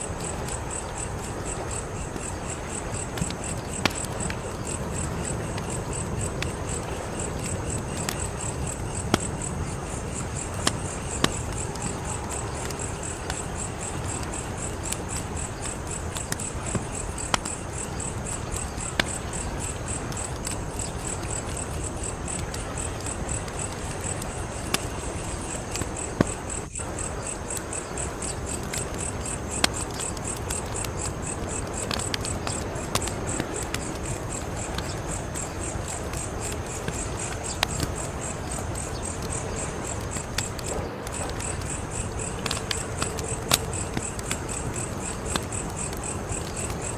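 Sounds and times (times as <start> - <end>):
crickets chirping: 0.0 - 46.9
fire popping: 0.0 - 46.9
wood fire crackling: 0.0 - 46.9.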